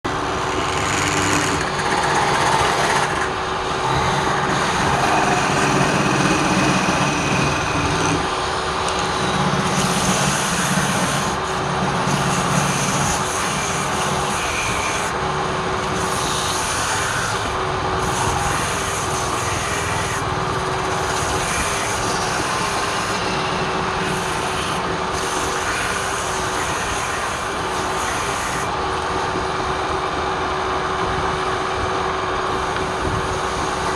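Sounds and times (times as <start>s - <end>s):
turning tool cutting wood: 0.0s - 28.8s
wood lathe motor hum: 0.0s - 33.9s.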